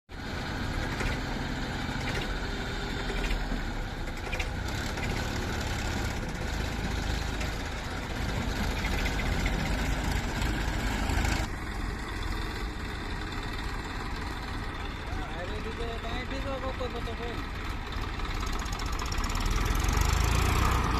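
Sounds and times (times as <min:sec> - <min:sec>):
diesel engine rumbling: 0:00.1 - 0:20.9.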